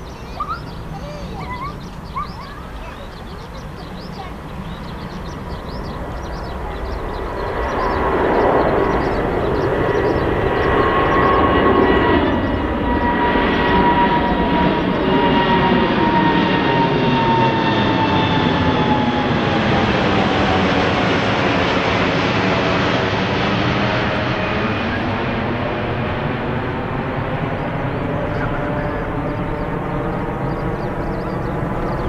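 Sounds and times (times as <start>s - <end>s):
jet airliner passing overhead: 0.0s - 32.0s.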